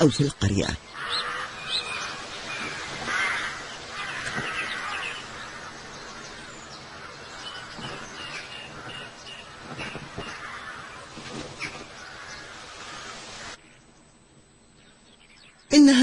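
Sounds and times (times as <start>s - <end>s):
rushing outdoor background: 0.0s - 16.0s.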